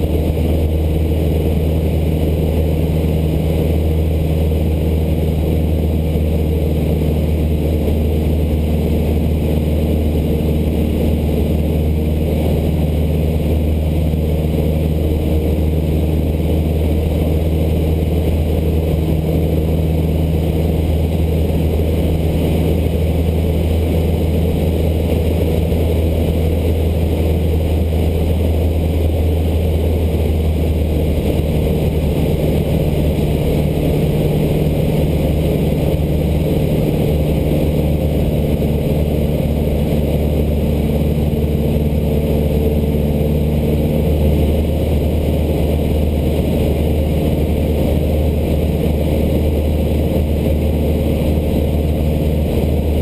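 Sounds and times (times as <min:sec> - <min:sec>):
airplane engine drone in cockpit: 0:00.0 - 0:53.0.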